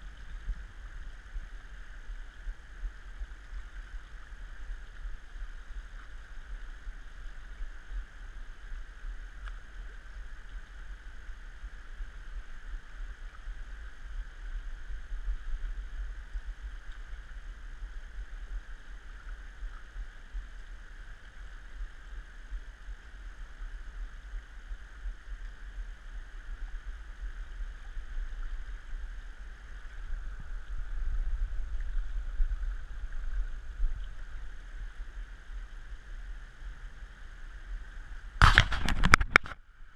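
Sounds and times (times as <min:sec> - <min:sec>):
river water flowing: 0:00.0 - 0:39.9
wind rumbling on microphone: 0:00.0 - 0:39.9.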